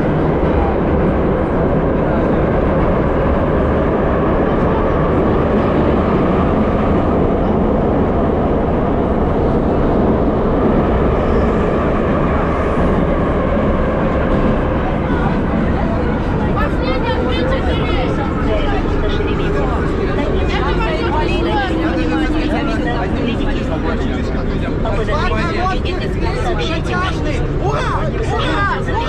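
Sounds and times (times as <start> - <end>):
metro train rumbling on rails: 0.0 - 29.0.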